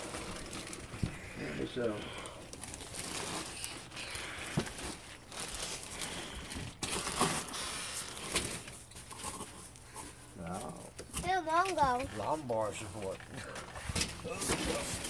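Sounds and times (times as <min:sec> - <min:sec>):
plastic and cardboard rustling: 0:00.0 - 0:15.0.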